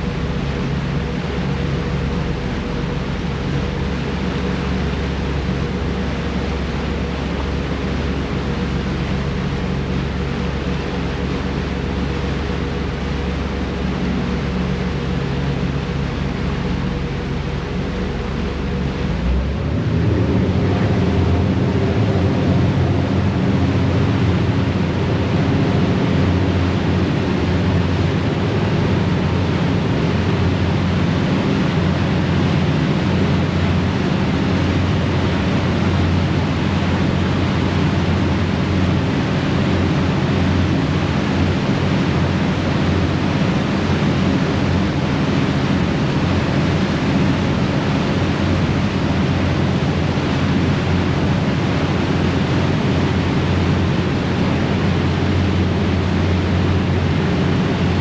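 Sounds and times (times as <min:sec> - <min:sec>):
ferry engines droning: 0:00.0 - 0:58.0
propeller wash churning: 0:00.0 - 0:58.0.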